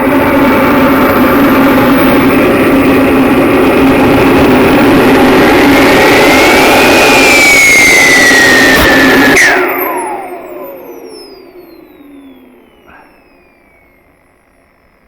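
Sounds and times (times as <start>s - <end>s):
jet turbine running: 0.0s - 15.0s
turbine whine: 0.0s - 15.0s.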